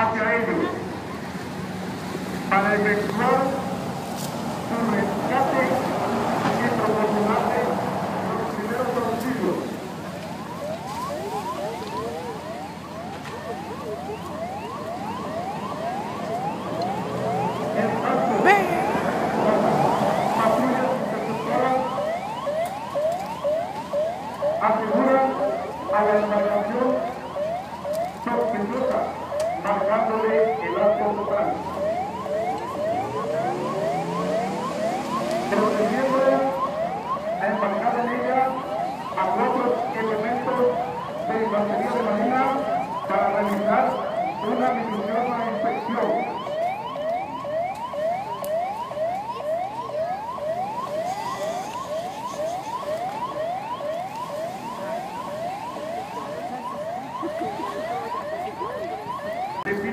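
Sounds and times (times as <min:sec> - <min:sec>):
electronic siren rising sweeps: 0:10.4 - 0:59.9.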